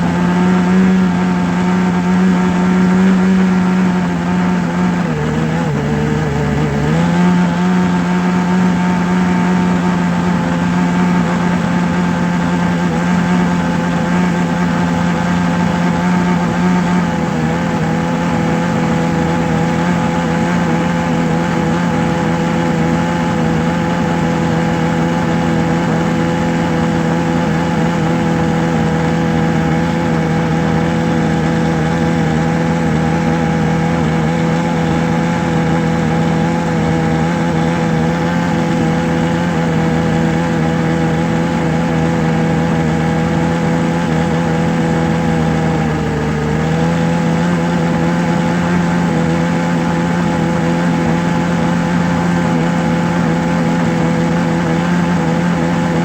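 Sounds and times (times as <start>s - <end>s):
motor hum: 0.0s - 56.0s.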